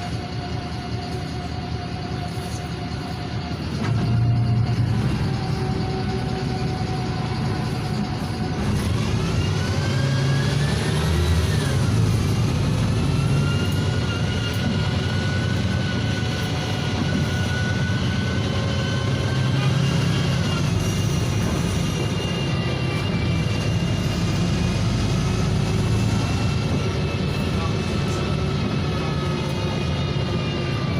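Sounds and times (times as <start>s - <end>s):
bus engine running: 0.0s - 30.9s
gearbox whine: 0.0s - 30.9s.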